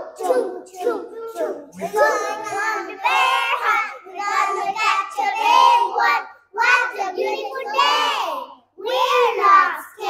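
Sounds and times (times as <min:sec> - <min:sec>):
child singing: 0:00.0 - 0:10.0.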